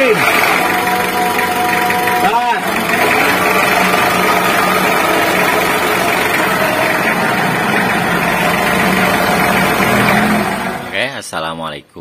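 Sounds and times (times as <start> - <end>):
engine idling: 0.0 - 11.1
transmission rough rumbling: 0.0 - 11.1.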